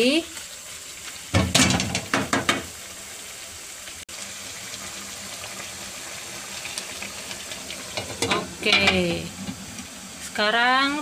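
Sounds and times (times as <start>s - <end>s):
sauce sizzling: 0.0s - 11.0s.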